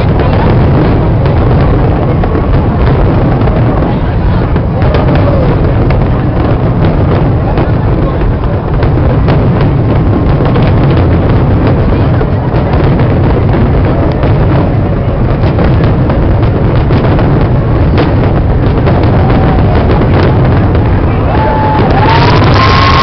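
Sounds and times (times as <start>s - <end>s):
crowd voices: 0.0s - 23.0s
deep rumble: 0.0s - 23.0s
fireworks booms and crackling pops: 0.0s - 23.0s.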